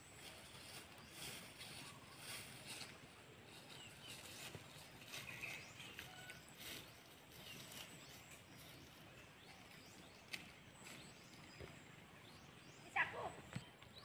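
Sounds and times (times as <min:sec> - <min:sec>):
faint rural ambience: 0:00.0 - 0:14.0.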